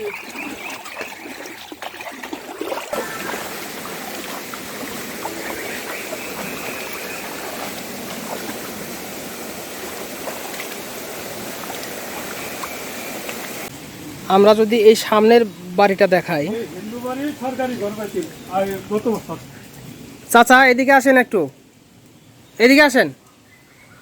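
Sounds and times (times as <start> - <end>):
floodwater rushing: 0.0 - 19.5.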